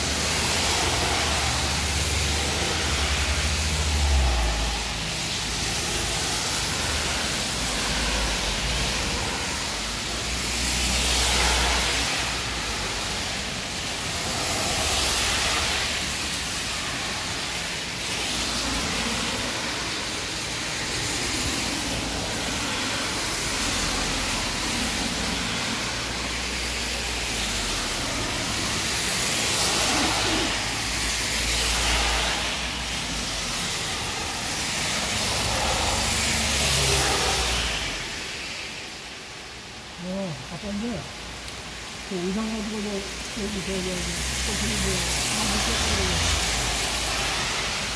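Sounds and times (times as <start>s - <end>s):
car tyres swishing on wet road: 0.0s - 47.9s
rain falling: 0.0s - 47.9s.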